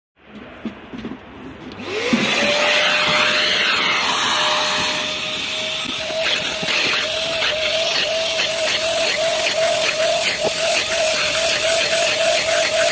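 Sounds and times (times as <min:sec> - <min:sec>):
vacuum cleaner motor: 0:01.8 - 0:12.9.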